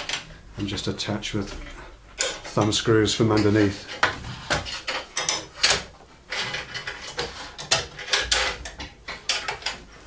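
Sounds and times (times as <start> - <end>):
metallic clicks and knocks: 1.5 - 9.9.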